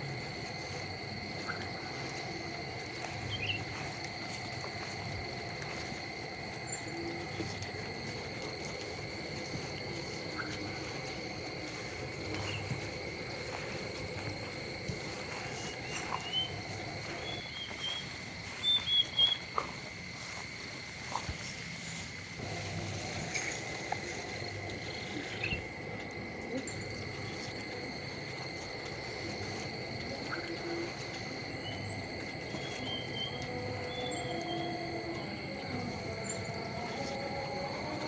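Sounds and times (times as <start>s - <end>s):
high insect trill: 0.0s - 38.0s.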